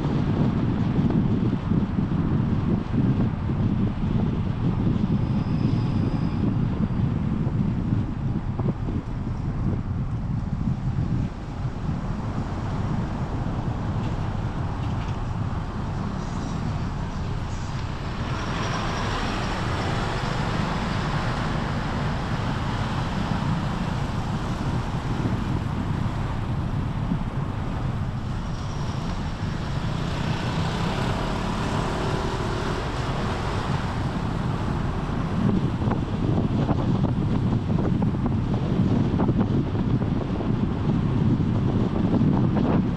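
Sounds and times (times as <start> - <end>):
road traffic rumble: 0.0 - 42.9
vehicles passing: 0.0 - 42.9.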